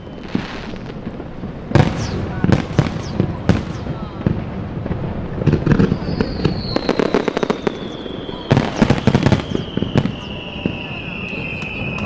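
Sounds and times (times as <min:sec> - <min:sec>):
descending firework whistle: 0:00.0 - 0:04.4, 0:05.0 - 0:12.0
fireworks crackling: 0:00.0 - 0:12.0.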